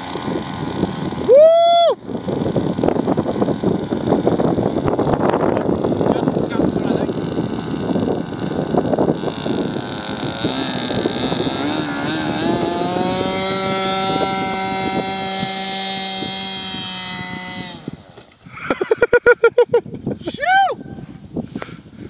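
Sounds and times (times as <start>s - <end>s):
rapid pulsing sounds: 0.0s - 19.0s
model plane propeller motor whining: 0.0s - 19.6s
wind rumble on microphone: 0.0s - 22.0s.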